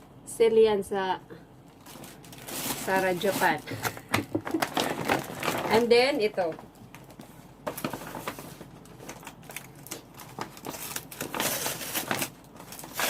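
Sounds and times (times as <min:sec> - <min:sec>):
packaging rustling and crinkling: 0:01.7 - 0:13.0.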